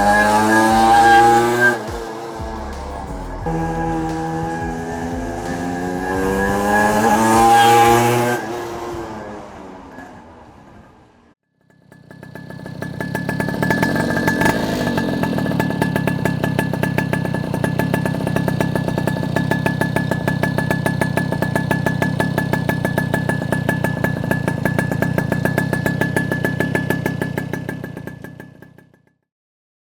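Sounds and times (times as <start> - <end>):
moped engine at high revs: 0.0 - 29.0.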